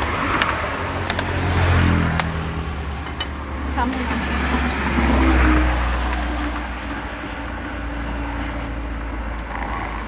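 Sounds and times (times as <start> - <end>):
steady low traffic rumble: 0.0 - 10.0
vehicle passing: 0.0 - 10.0.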